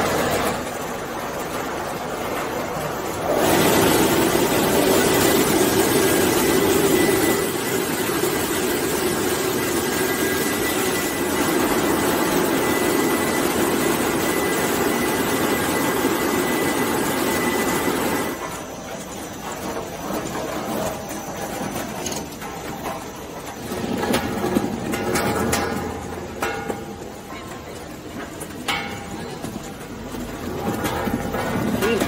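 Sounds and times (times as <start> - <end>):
conveyor machinery drone: 0.0 - 32.0.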